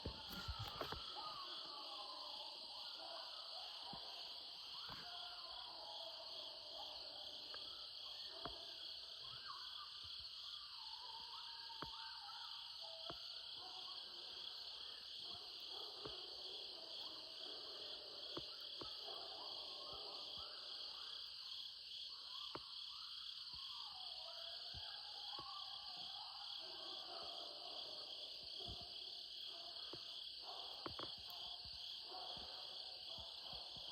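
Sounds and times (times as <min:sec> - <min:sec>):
coyotes howling and yipping: 0:00.0 - 0:33.9
insect chorus: 0:00.0 - 0:33.9.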